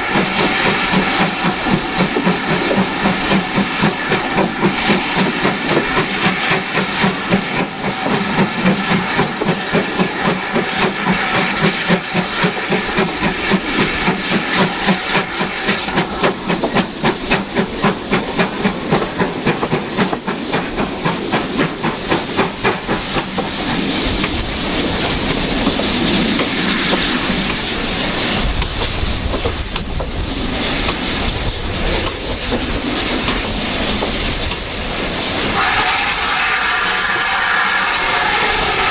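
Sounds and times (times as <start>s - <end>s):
steam hissing and running gear: 0.0s - 38.9s
steam locomotive exhaust beats: 0.0s - 38.9s.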